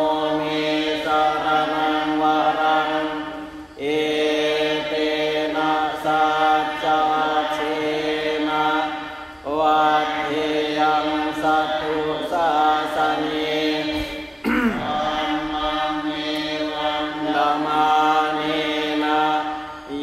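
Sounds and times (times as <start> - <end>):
group chanting in monotone: 0.0 - 20.0.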